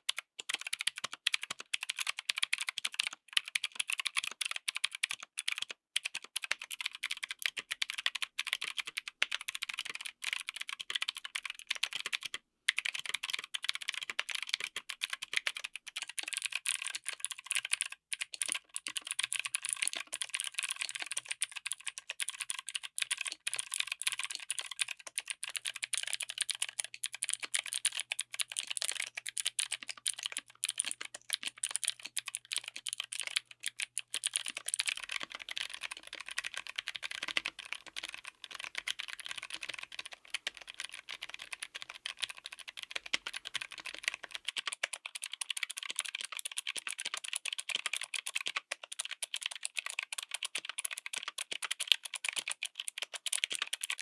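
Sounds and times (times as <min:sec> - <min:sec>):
fast typing on mechanical keyboard: 0:00.1 - 0:54.0.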